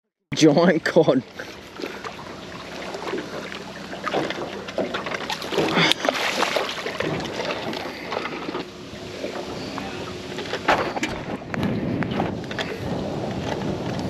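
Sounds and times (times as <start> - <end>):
water splashing around boat: 0.4 - 14.0
boat knocks and bumps: 0.8 - 14.0.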